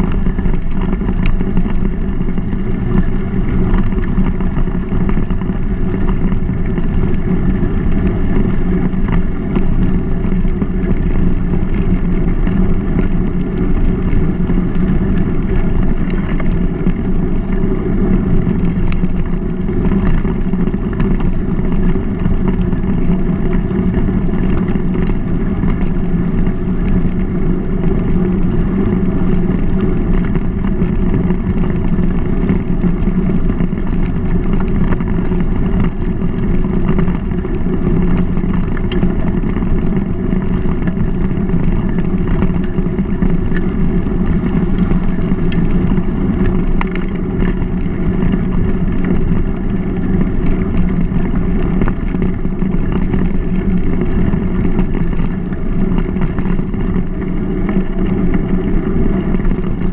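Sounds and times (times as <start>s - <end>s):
bike rolling on gravel: 0.0s - 59.9s
faint gravel ticks: 0.0s - 59.9s.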